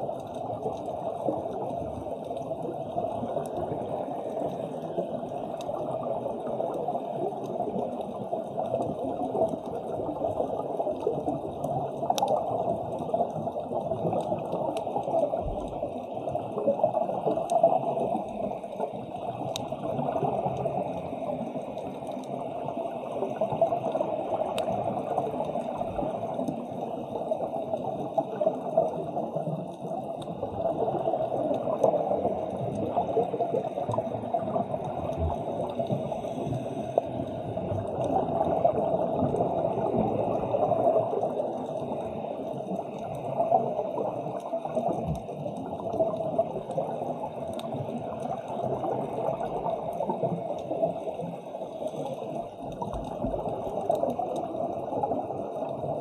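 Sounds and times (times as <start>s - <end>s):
muffled underwater bubbling: 0.0s - 56.0s.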